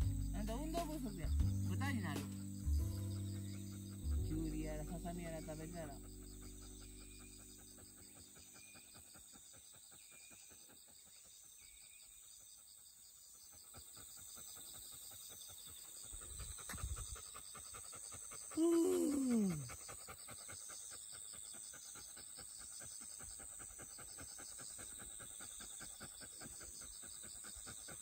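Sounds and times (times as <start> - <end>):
dog panting: 0.0 - 12.6, 13.2 - 28.0.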